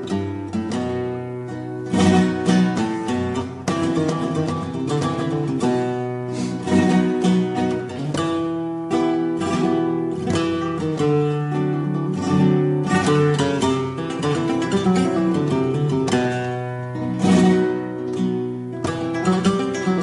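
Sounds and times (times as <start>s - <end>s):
solo flamenco guitar: 0.0s - 20.0s.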